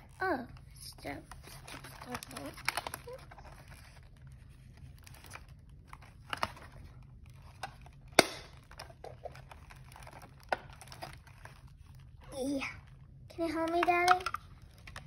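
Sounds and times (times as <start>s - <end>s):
packaging crinkling: 1.2s - 15.0s.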